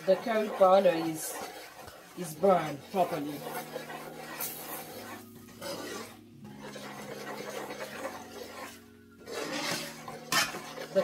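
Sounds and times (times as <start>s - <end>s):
metal spoon scraping skillet: 0.0s - 11.0s
light sizzle: 1.2s - 10.9s.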